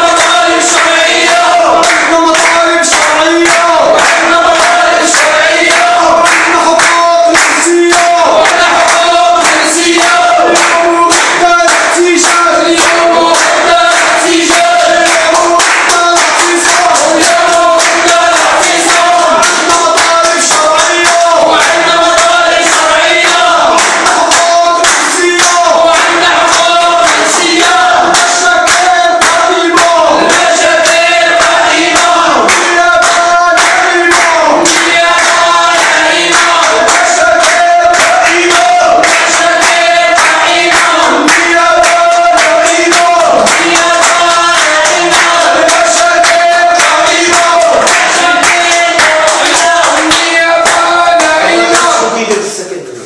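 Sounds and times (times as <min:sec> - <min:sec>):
crowd chanting: 0:00.0 - 0:52.2
rhythmic clapping: 0:00.0 - 0:52.2.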